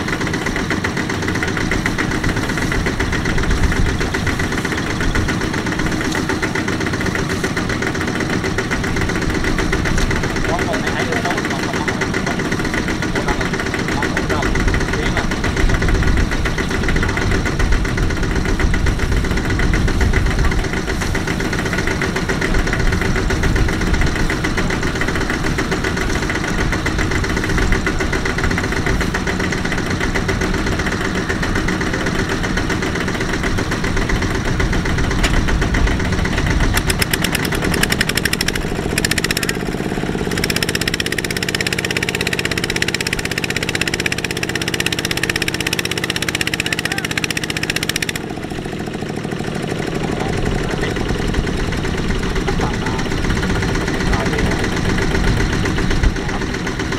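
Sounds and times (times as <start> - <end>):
diesel tractor engine running: 0.0 - 56.9.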